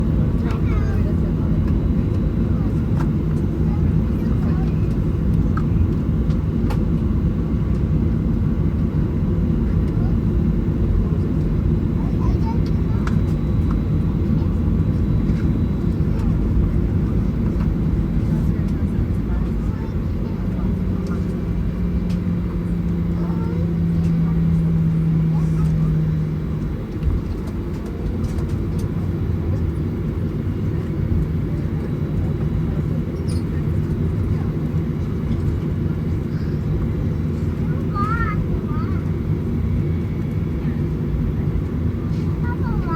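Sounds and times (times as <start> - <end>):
aircraft cabin rumble: 0.0 - 42.9.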